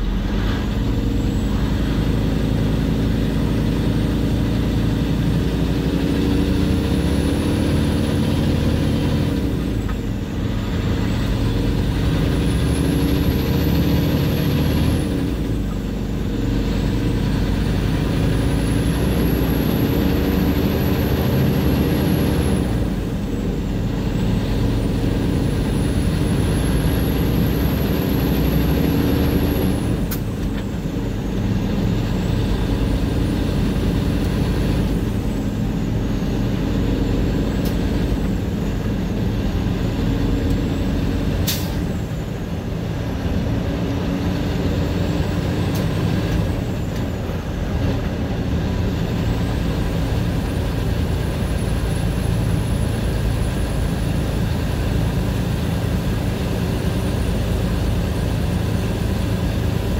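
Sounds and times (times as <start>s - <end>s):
heavy truck engine running: 0.0s - 59.9s
road noise: 0.0s - 59.9s.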